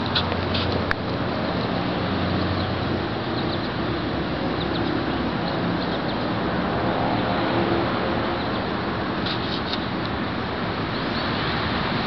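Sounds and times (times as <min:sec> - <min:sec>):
road traffic rumble and hiss: 0:00.0 - 0:12.0.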